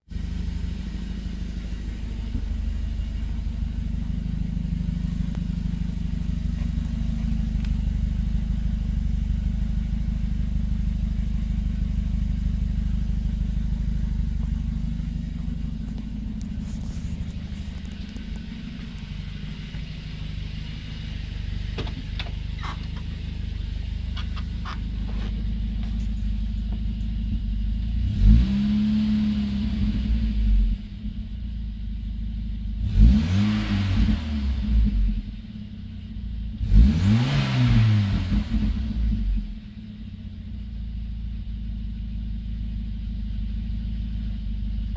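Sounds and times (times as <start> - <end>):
car engine idling without muffler: 0.0 - 44.9.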